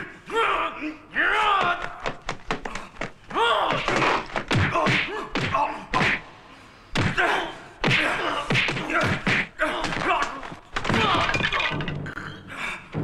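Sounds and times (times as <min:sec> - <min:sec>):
men grunting and shouting: 0:00.0 - 0:11.3.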